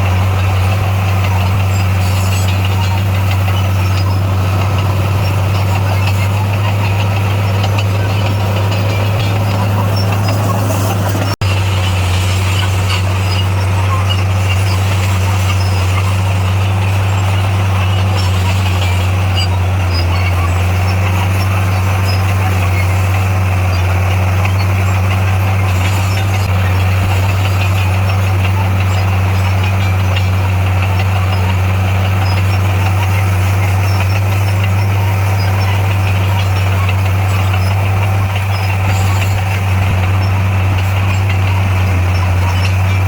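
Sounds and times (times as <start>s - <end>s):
bulldozer diesel engine humming: 0.0s - 43.0s.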